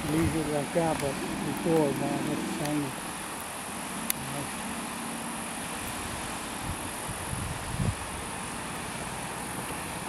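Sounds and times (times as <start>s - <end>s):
water rushing down terraces: 0.0s - 10.0s.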